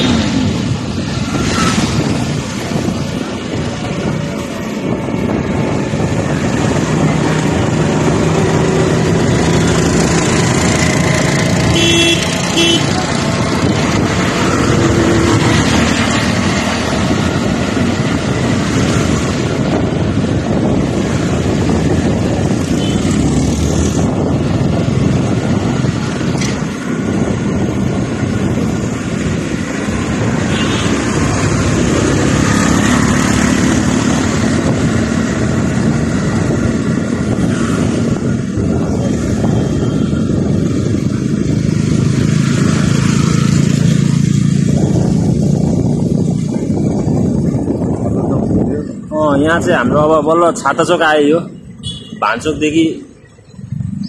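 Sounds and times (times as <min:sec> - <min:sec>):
scooter engine hum: 0:00.0 - 0:48.8
passing motorcycles: 0:00.0 - 0:54.0
wind noise on microphone: 0:00.0 - 0:54.0.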